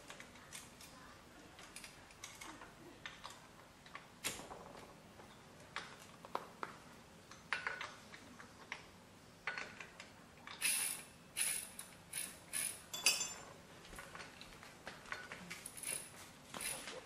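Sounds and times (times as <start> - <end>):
metallic clicks and clanks: 0.0 - 17.0.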